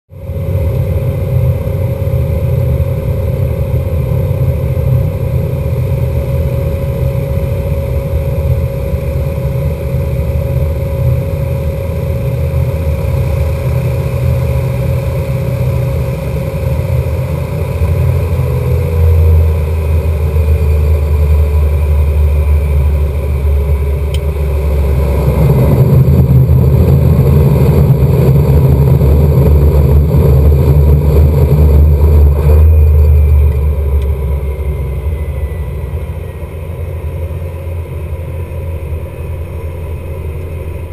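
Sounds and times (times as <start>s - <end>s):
turboprop engine drone: 0.1s - 40.9s.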